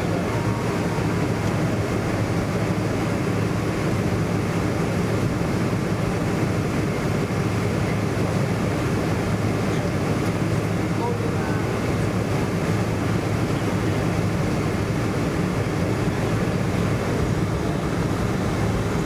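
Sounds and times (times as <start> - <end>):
jet airliner cabin drone: 0.0 - 19.0.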